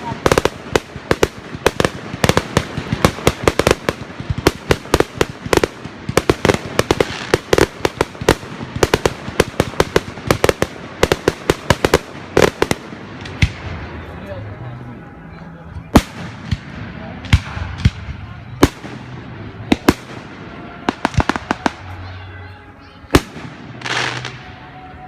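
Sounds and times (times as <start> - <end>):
fireworks bangs: 0.0 - 14.2, 15.9 - 24.8.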